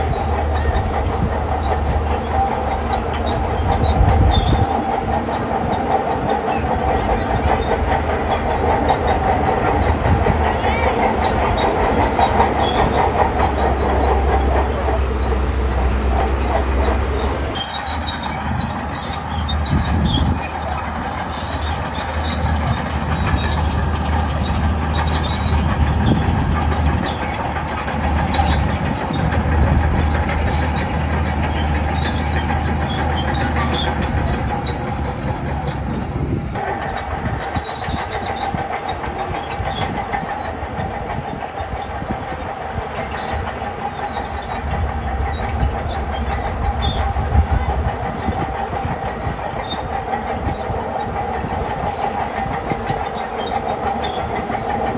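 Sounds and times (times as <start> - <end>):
bulldozer diesel engine running: 0.0 - 54.9
steel tracks clanking: 0.0 - 54.9.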